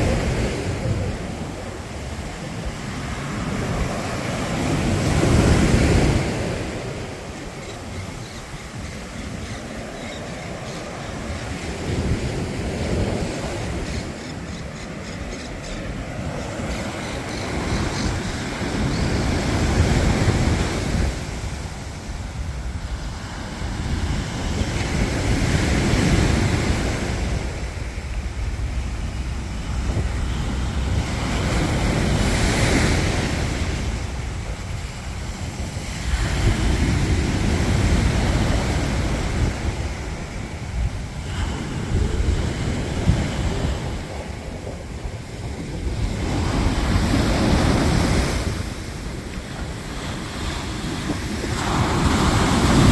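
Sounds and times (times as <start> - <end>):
waves breaking on beach: 0.0 - 52.9
wind buffeting microphone: 0.0 - 52.9.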